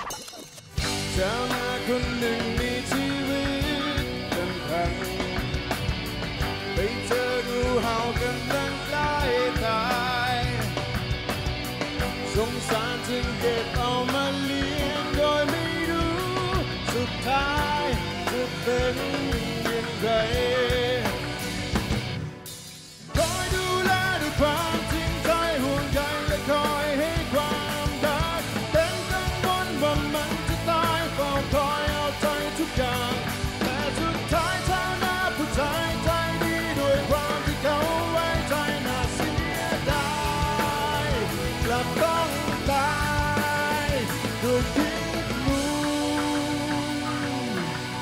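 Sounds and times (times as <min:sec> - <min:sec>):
rock band playing: 0:00.0 - 0:48.0
man singing: 0:00.8 - 0:11.0, 0:12.0 - 0:21.6, 0:23.1 - 0:48.0.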